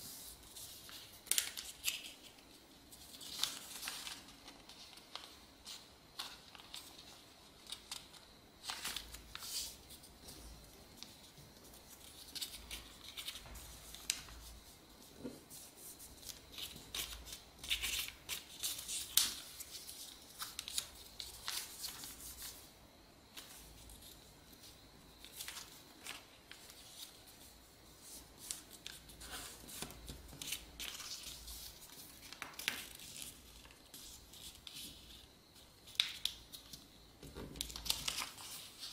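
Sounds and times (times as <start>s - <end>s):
paper rustling and creasing: 0.1s - 22.7s, 23.4s - 38.9s.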